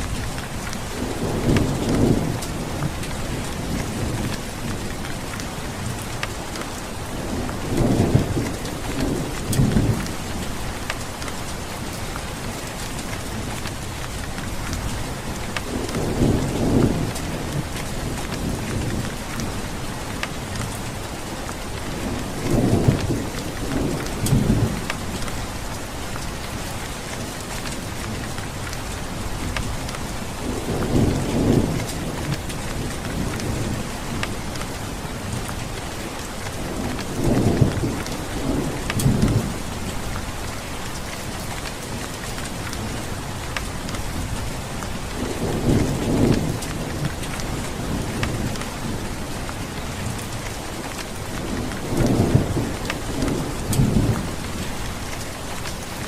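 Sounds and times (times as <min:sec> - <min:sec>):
thunder rumbling: 0:00.0 - 0:26.4, 0:27.6 - 0:56.0
steady rain falling: 0:00.0 - 0:56.0.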